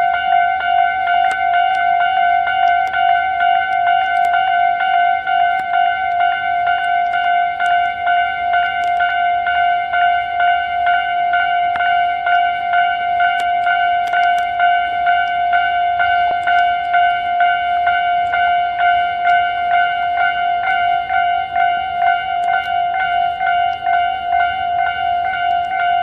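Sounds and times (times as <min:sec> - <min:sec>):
level-crossing alarm bell dinging: 0:00.0 - 0:26.0.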